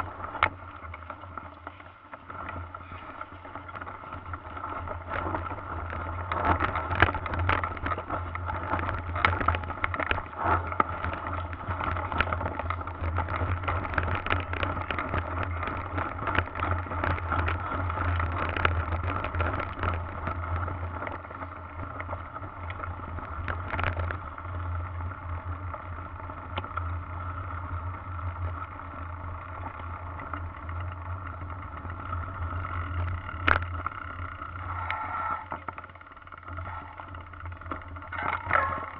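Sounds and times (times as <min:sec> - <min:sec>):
bike rattling over bumps: 0:00.0 - 0:38.9
wind and tyre rolling rumble: 0:00.0 - 0:38.9.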